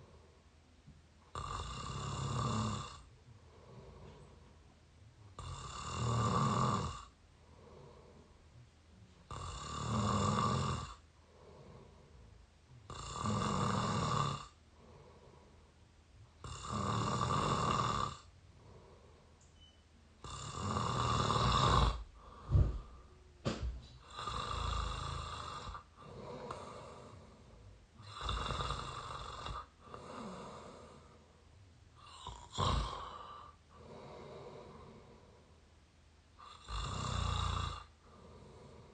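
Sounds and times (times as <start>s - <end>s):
quiet breathing: 0.0s - 38.9s
person snoring: 1.3s - 4.3s, 5.4s - 8.4s, 9.3s - 15.6s, 16.4s - 19.2s, 20.2s - 23.0s, 24.0s - 31.3s, 32.0s - 35.5s, 36.4s - 38.9s.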